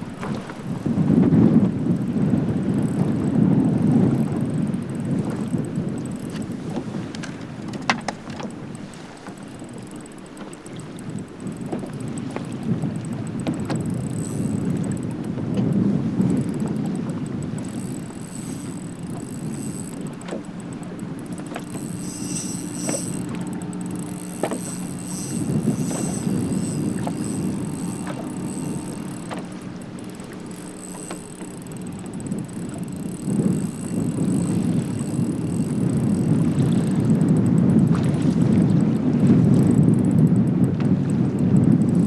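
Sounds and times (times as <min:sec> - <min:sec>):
light clicks and knocks: 0:00.0 - 0:42.0
wind buffeting microphone: 0:00.0 - 0:42.0.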